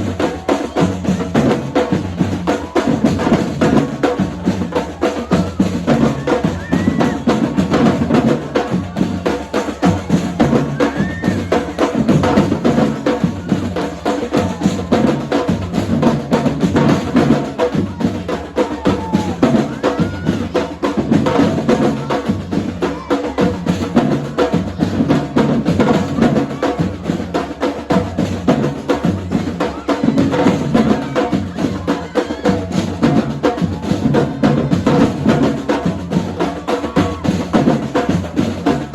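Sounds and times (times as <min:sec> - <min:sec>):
drum line percussion groove: 0:00.0 - 0:38.9.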